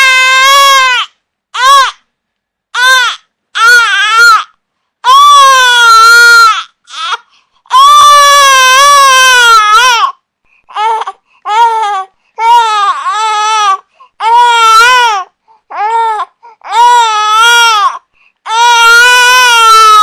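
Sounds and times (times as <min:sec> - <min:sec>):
infant crying: 0:00.0 - 0:02.0, 0:02.8 - 0:20.0.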